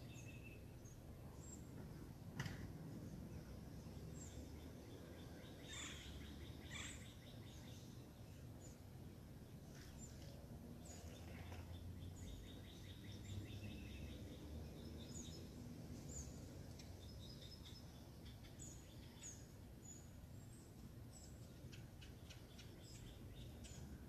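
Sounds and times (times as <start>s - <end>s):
birds chirping and trilling: 0.0s - 2.2s, 2.9s - 24.0s.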